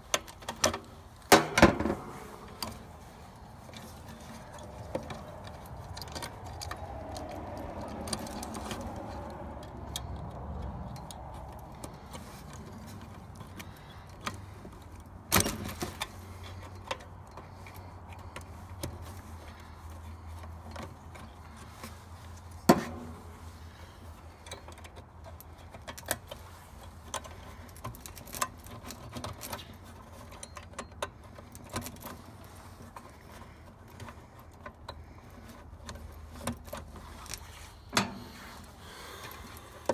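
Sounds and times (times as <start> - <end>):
metallic clicks of wires handled: 0.0 - 39.9.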